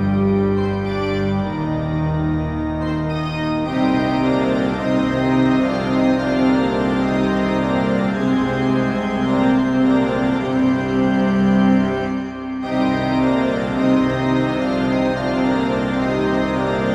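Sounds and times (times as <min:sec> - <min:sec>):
organ chords: 0:00.0 - 0:16.9.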